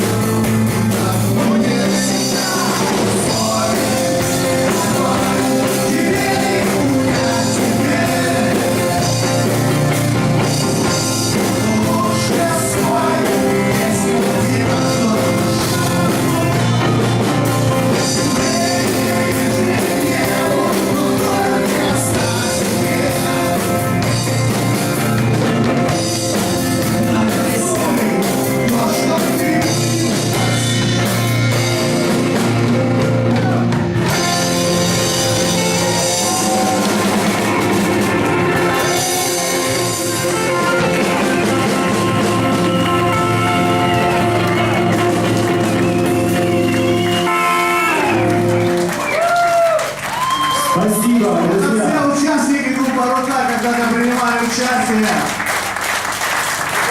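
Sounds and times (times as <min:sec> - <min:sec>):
drum kit: 0:00.0 - 0:56.9
electric guitar: 0:00.0 - 0:56.9.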